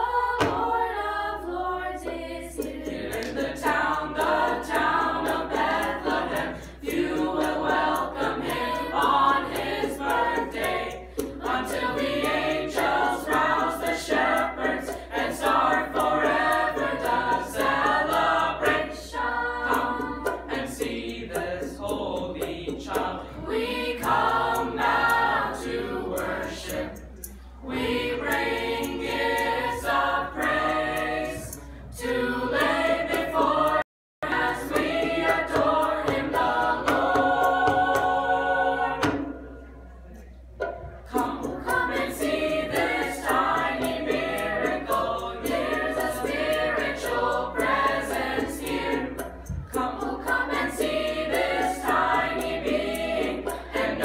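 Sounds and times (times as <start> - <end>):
youth choir singing a cappella: 0.0 - 39.7, 40.7 - 54.0.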